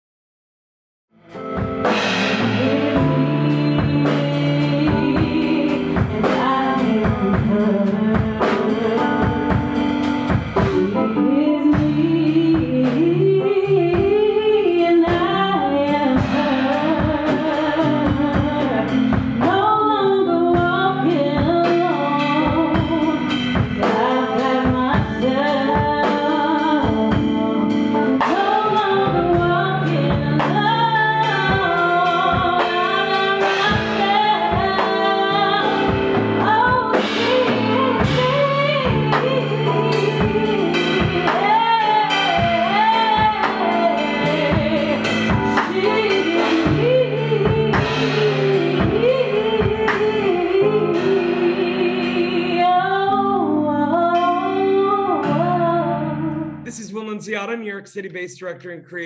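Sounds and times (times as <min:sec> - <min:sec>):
electric keyboard chords: 0:01.2 - 0:58.2
drum kit beat: 0:01.3 - 0:52.3, 0:56.6 - 0:59.0
woman singing: 0:02.4 - 0:56.6.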